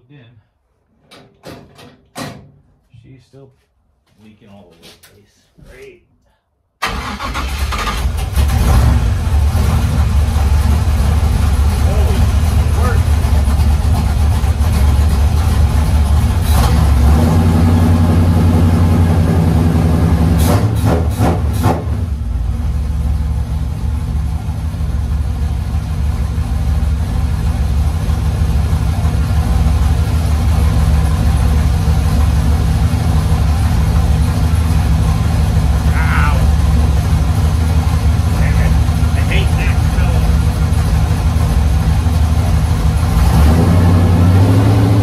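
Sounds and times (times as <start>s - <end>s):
car engine idling: 6.8s - 20.4s, 22.1s - 45.0s.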